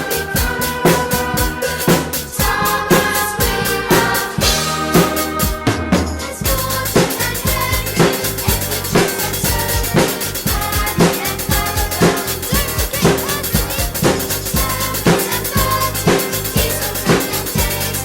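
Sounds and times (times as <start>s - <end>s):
backing track melody: 0.0s - 18.0s
drum kit playing: 0.0s - 18.0s.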